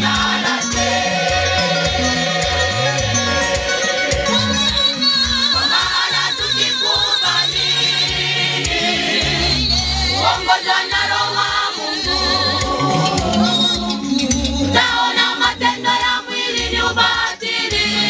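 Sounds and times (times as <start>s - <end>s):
bass line: 0.0s - 6.1s, 7.2s - 17.2s
women singing gospel song: 0.0s - 18.0s.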